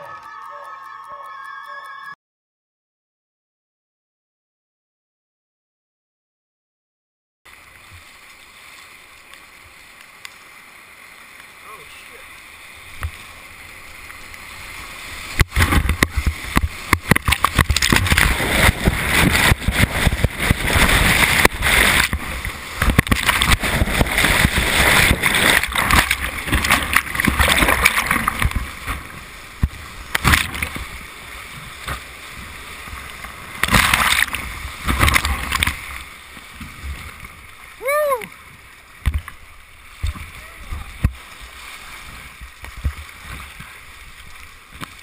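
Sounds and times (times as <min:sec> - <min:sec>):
whitewater rushing and splashing: 0:07.6 - 0:45.0.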